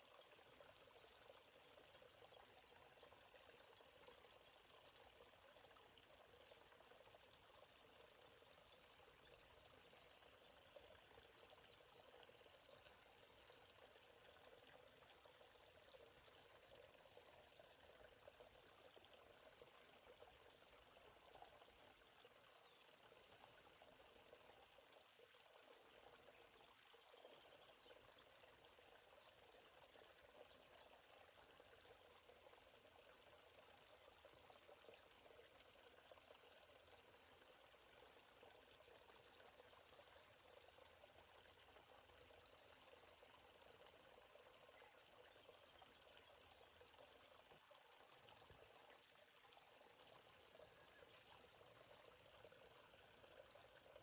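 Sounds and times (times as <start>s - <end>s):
forest stream babbling: 0.0s - 54.0s
insects trilling: 0.0s - 54.0s.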